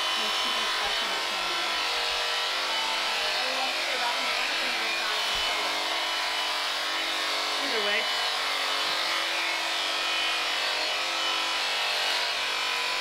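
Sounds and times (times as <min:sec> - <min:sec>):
electric sheep shears humming: 0:00.0 - 0:13.0.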